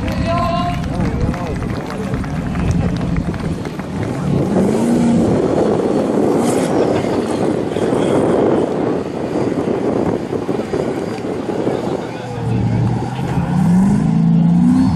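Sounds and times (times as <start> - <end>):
dense rushing noise: 0.0 - 14.9
car engine at high revs: 2.2 - 14.9.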